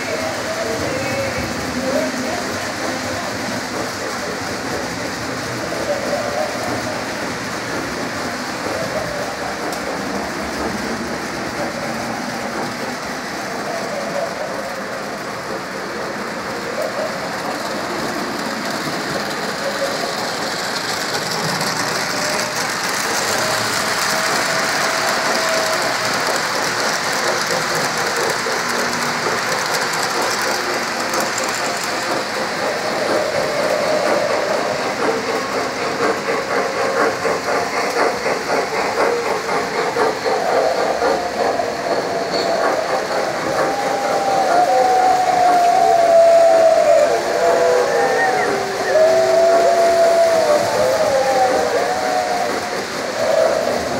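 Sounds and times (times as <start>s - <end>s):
model train motor whirring: 0.0s - 53.9s
train wheels clicking over rail joints: 0.0s - 53.9s.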